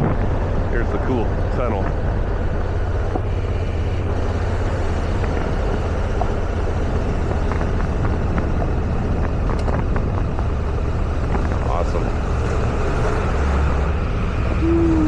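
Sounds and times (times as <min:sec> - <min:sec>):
motorcycle engine cruising: 0:00.0 - 0:15.0
road and wind noise: 0:00.0 - 0:15.0.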